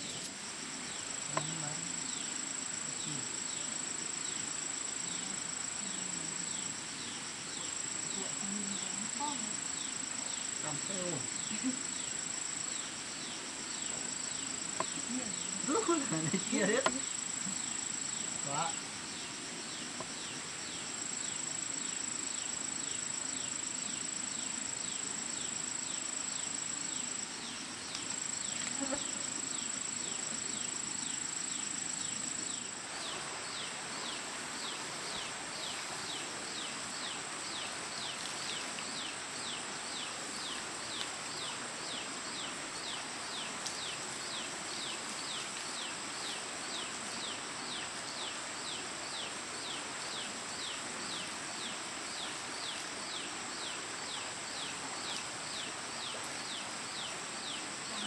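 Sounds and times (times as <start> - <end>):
insect chirping: 0.0 - 58.0
insects high-pitched buzz: 0.0 - 58.0.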